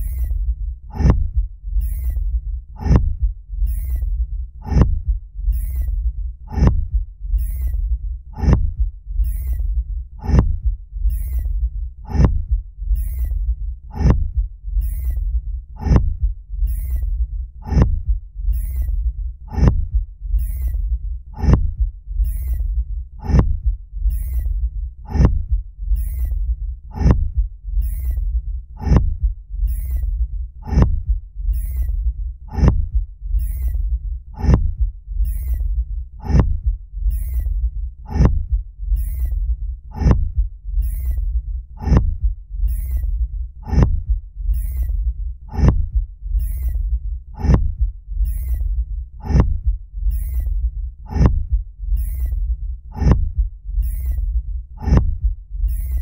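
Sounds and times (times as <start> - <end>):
continuous low rumble: 0.0 - 56.0
mechanical pounding thuds: 0.0 - 56.0.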